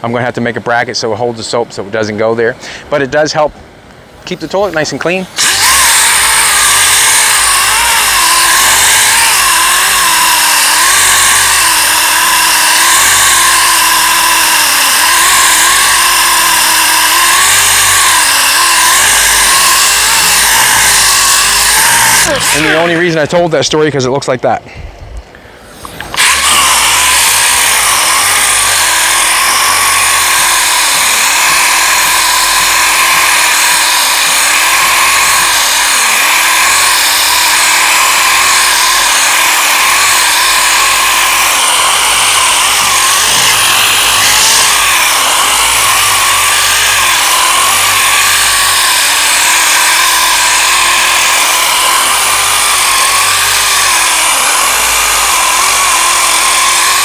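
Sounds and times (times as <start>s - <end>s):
orbital sander running: 5.4s - 23.3s, 25.8s - 57.0s.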